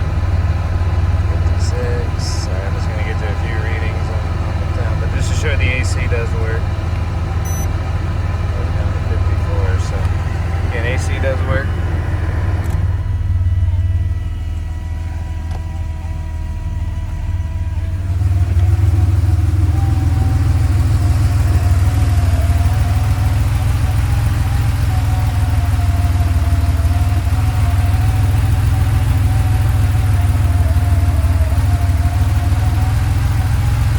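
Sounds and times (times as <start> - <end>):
car engine idling: 0.0 - 33.9
steady whine: 0.0 - 33.9.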